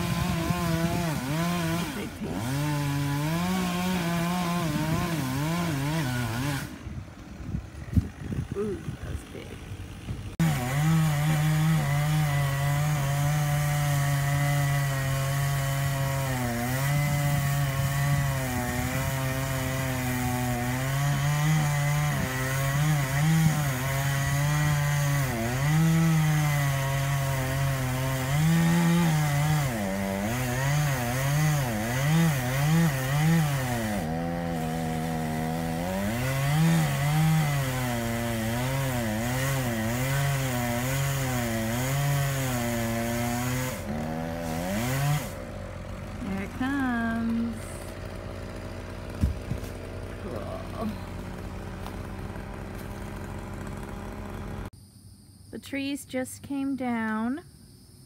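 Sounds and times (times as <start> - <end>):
chainsaw cutting branches: 0.0 - 54.7.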